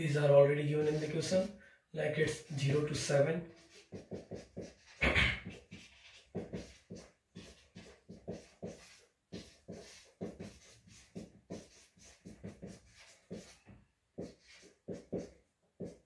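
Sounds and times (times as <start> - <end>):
marker pen scratching whiteboard: 0.1 - 1.5, 2.2 - 16.0.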